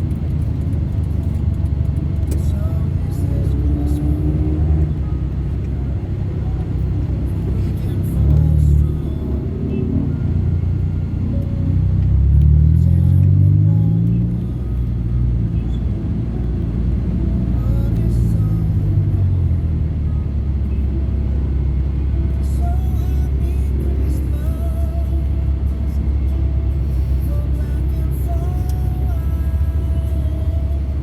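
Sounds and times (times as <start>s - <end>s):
bass-heavy music on car stereo: 0.0s - 31.0s
engine and road rumble: 0.0s - 31.0s.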